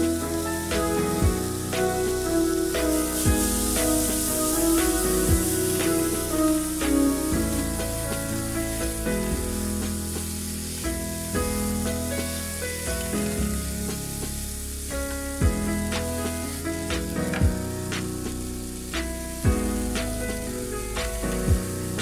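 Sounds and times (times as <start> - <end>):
bass drum hits: 0.0 - 12.2, 15.3 - 22.0
background music with held notes: 0.0 - 22.0
vegetables sizzling in oil: 0.0 - 22.0.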